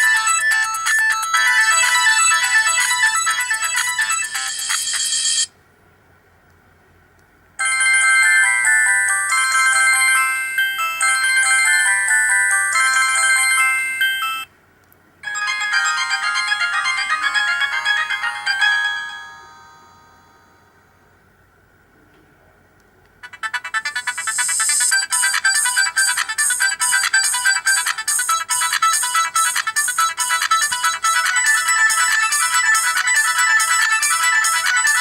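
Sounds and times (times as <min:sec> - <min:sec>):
mobile phone ringtone melodies: 0:00.0 - 0:05.5, 0:07.6 - 0:14.5, 0:15.2 - 0:20.7, 0:23.2 - 0:35.0.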